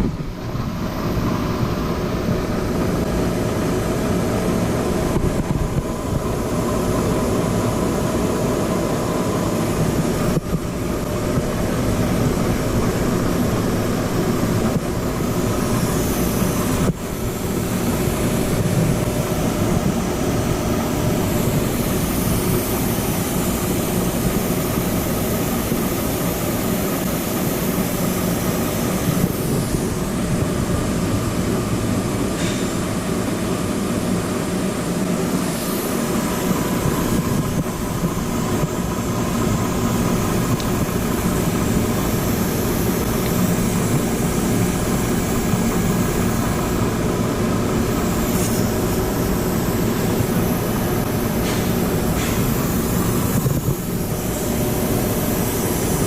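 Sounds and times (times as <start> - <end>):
heavy machinery humming: 0.0 - 56.0.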